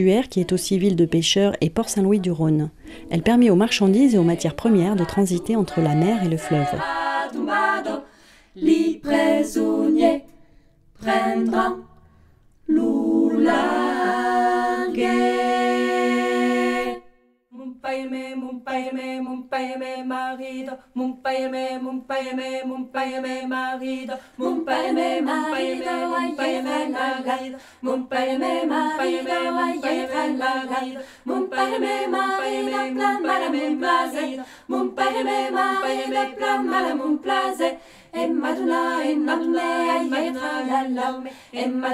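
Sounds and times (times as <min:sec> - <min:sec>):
a cappella choir singing: 0:01.9 - 0:41.9.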